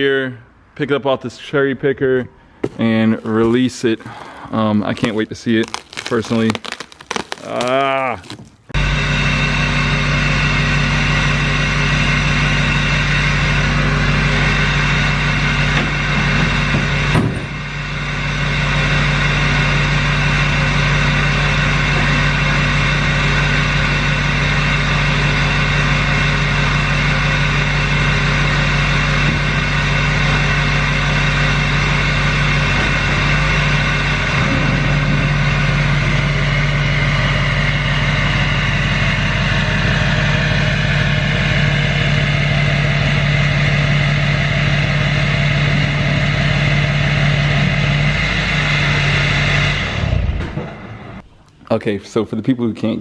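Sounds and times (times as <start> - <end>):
truck engine idling: 2.4 - 51.6.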